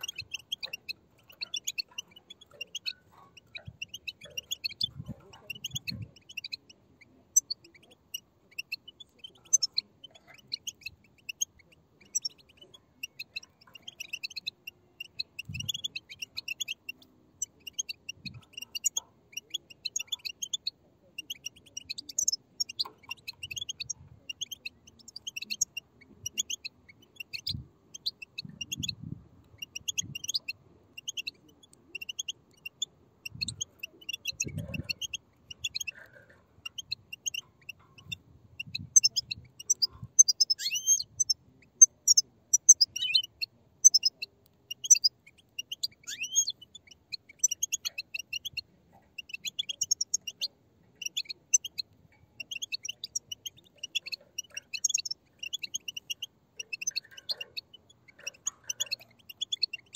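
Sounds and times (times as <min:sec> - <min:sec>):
chicks chirping: 0:00.0 - 0:59.9.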